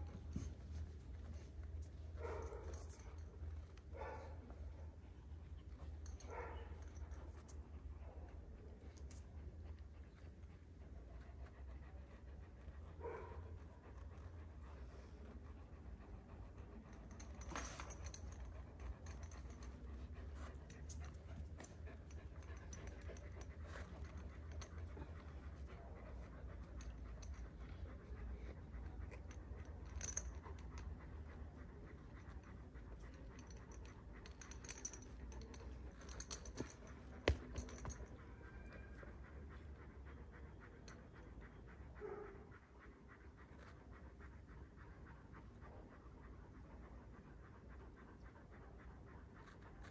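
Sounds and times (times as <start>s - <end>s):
light clicks and jingles: 0.0s - 48.5s
dog panting softly: 0.0s - 49.9s.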